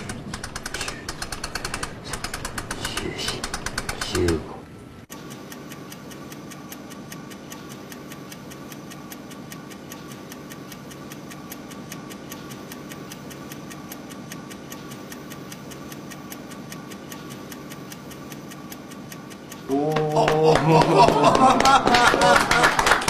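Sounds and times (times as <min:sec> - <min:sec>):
clock ticking evenly: 0:00.0 - 0:22.1.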